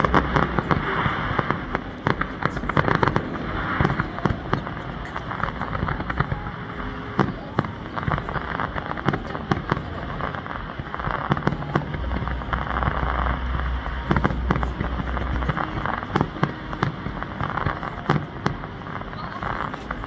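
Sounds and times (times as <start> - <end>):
crackle of sparks: 0.0 - 20.0
low rumble: 0.0 - 20.0.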